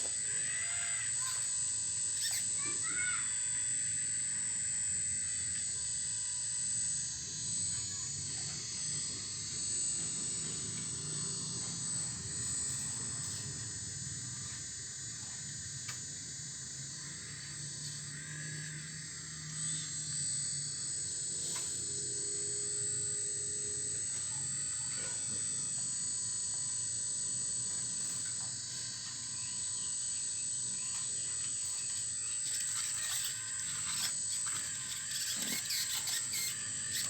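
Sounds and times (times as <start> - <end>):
model excavator motor whining: 0.0 - 37.0.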